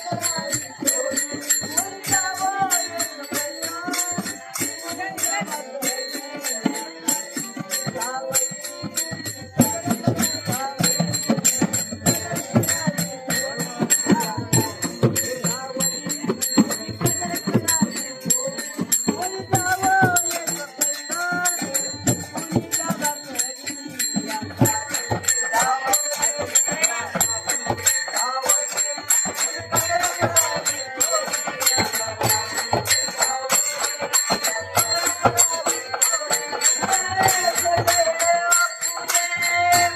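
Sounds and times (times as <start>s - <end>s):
fast percussion strokes: 0.0s - 39.9s
jingling metal percussion: 0.0s - 39.9s.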